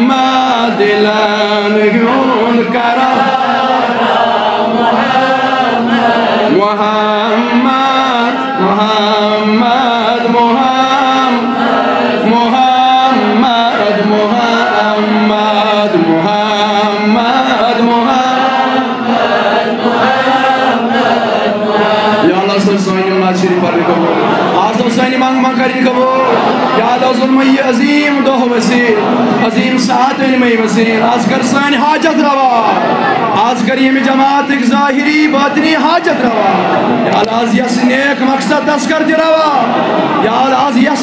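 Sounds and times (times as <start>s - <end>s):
man chanting a devotional song: 0.0s - 3.8s, 6.4s - 18.9s, 21.9s - 41.0s.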